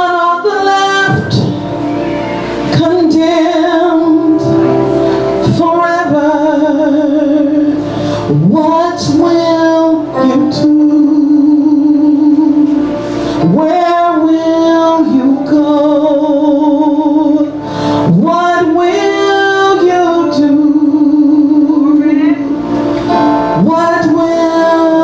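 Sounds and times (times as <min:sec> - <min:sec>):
woman singing slow song: 0:00.0 - 0:22.7, 0:23.4 - 0:25.0
instrumental accompaniment: 0:00.0 - 0:25.0.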